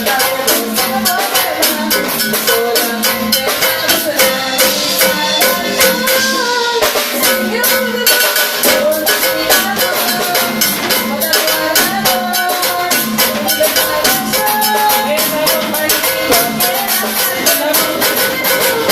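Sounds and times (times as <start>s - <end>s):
fast percussion rhythm: 0.0s - 18.9s
melody of held notes: 0.0s - 18.9s.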